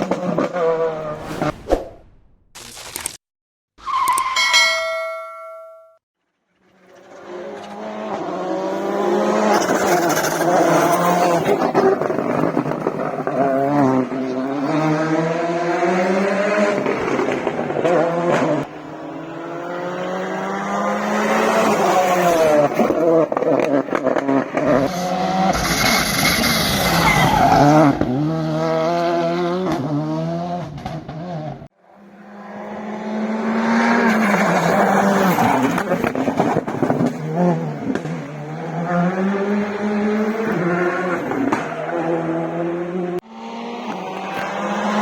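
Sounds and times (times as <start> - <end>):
rally car accelerating: 0.0 - 1.2, 6.6 - 45.0
rally car engine revving: 6.6 - 45.0.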